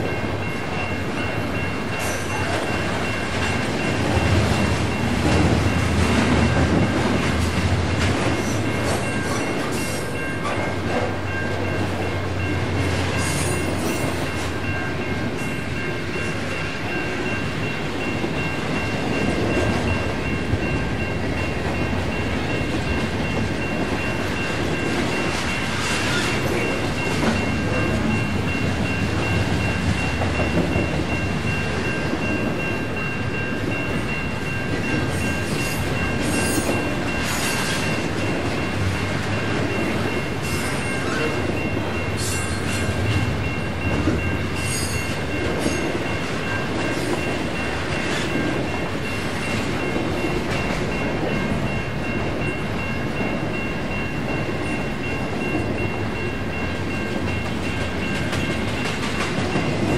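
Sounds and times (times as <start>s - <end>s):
high ringing tone: 0.0s - 59.9s
train wheels rumbling and clattering: 0.0s - 59.9s.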